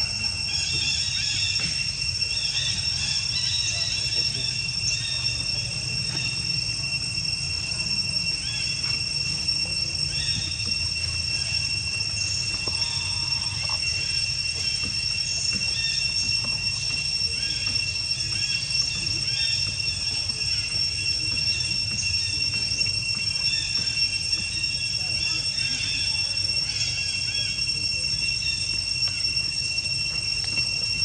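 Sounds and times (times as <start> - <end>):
faint chirps: 0.0 - 31.0
insects droning: 0.0 - 31.0.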